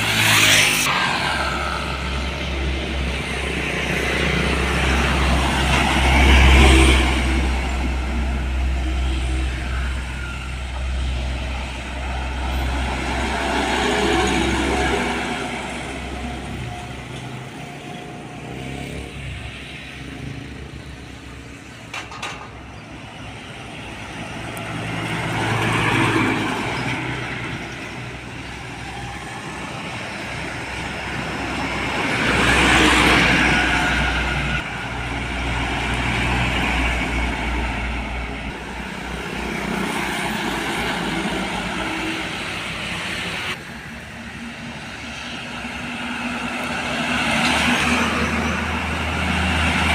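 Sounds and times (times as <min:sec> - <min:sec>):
heavy trucks passing: 0:00.0 - 0:49.9.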